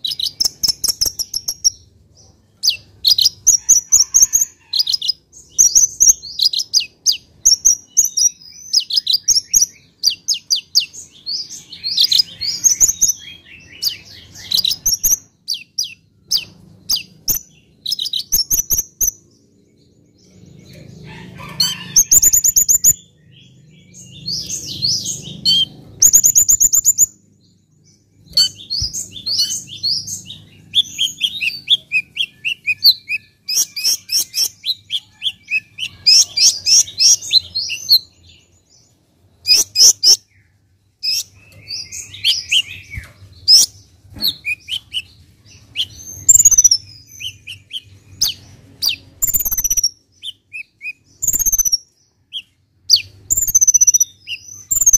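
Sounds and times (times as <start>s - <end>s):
bird singing high chirps: 0.0s - 54.9s.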